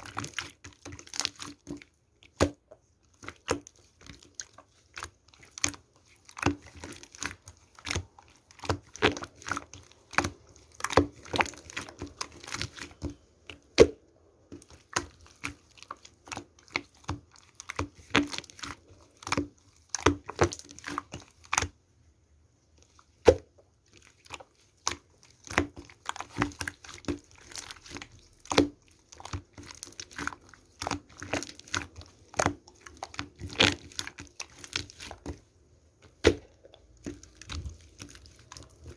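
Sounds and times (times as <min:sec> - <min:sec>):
slime squelching and popping: 0:00.0 - 0:21.8, 0:22.7 - 0:38.9.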